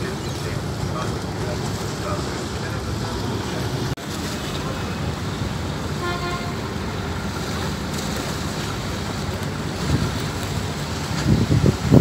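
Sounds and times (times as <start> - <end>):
ferry engine rumble: 0.0 - 12.0.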